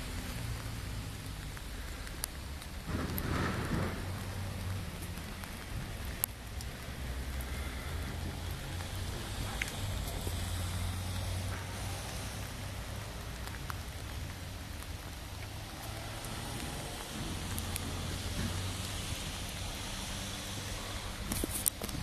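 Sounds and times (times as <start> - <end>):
constant hiss: 0.0 - 22.0
fire truck engine rumbling: 0.0 - 22.0.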